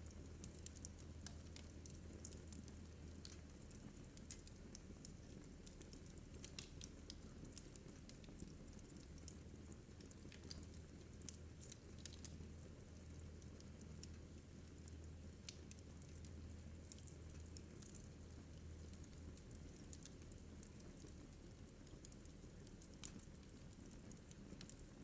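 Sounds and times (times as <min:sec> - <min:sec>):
fire crackling with small pops: 0:00.0 - 0:25.0.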